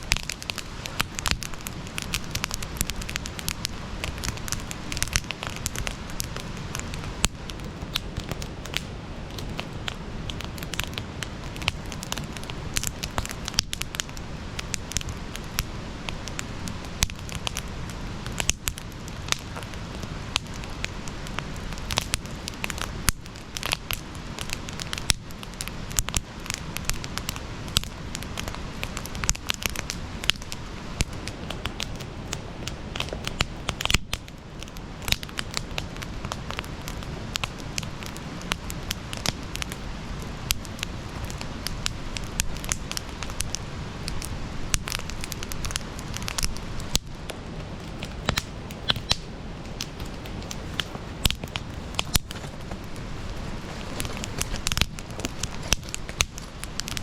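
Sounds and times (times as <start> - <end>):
campfire pops and snaps: 0.0 - 57.0
flames burning: 0.0 - 57.0.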